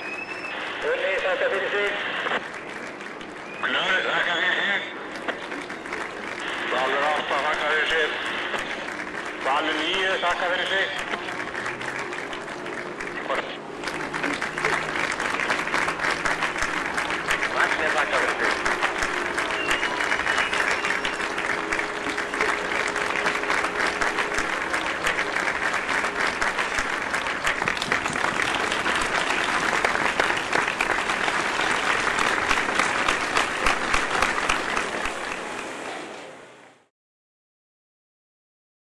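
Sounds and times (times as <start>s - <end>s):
crowd applauding: 0.0s - 36.2s.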